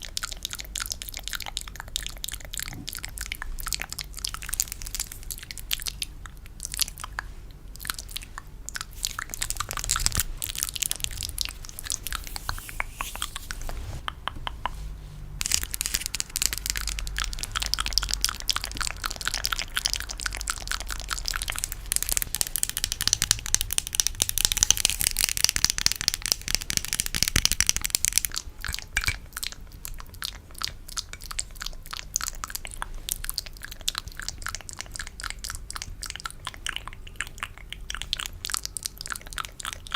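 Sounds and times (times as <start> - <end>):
wet sticky clicks and crackles: 0.0 - 13.4, 15.4 - 39.9.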